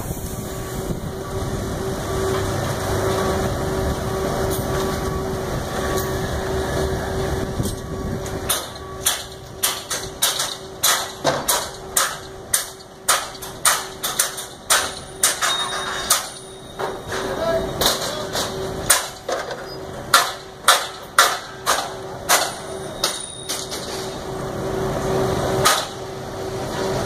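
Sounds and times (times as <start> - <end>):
machine rumbling and humming: 0.0 - 27.0.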